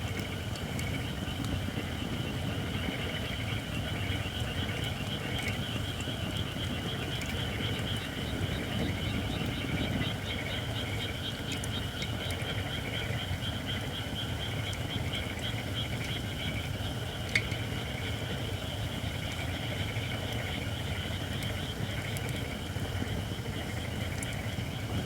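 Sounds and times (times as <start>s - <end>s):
frogs trilling: 0.2s - 25.0s.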